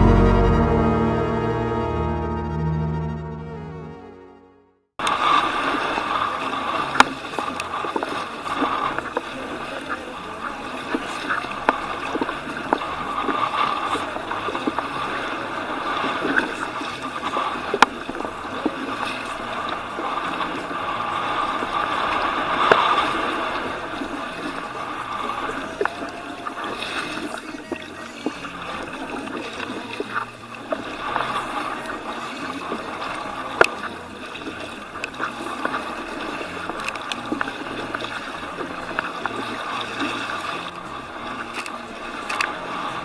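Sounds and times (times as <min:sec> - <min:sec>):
water splashing against kayak hull: 0:05.0 - 0:43.0.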